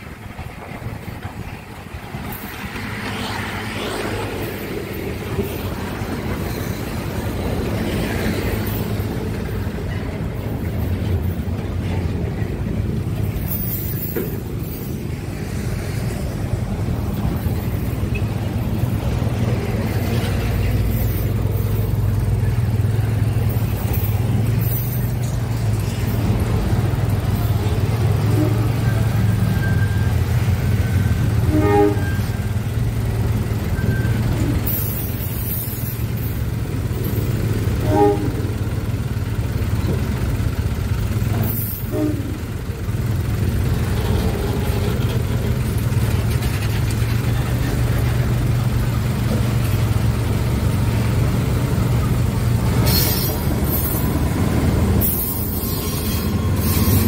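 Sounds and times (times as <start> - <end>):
locomotive hissing rush: 0.0 - 57.0
train wheels rumbling on rail: 0.0 - 57.0
wheel squeals: 0.8 - 12.5, 16.9 - 40.3, 41.1 - 57.0.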